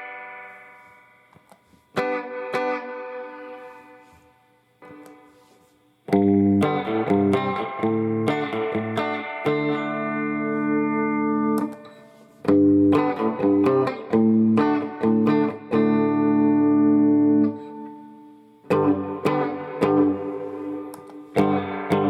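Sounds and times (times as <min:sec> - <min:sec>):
electric guitar chords: 0:00.0 - 0:22.0.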